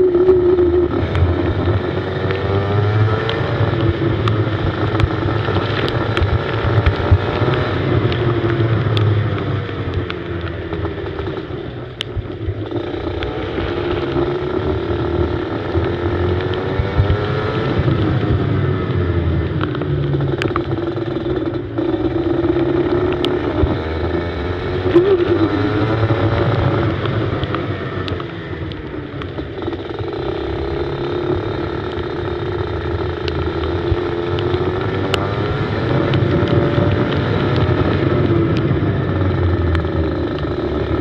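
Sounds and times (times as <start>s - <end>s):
go-kart engine revving: 0.0s - 41.0s.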